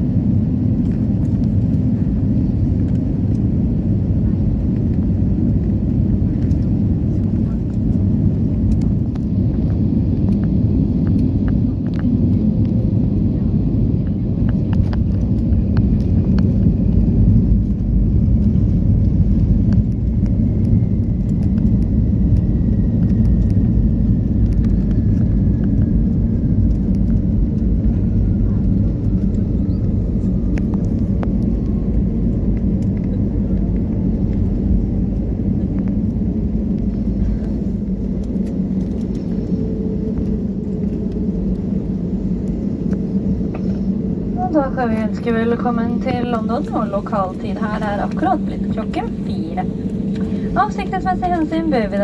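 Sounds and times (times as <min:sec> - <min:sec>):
aircraft undercarriage and engine rumble: 0:00.0 - 0:52.0.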